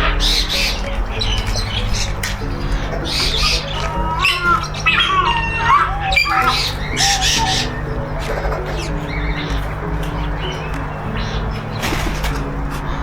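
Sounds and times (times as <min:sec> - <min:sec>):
background music: 0:00.0 - 0:13.0
birds squawking harshly: 0:00.0 - 0:13.0
gliding bird calls: 0:00.0 - 0:13.0.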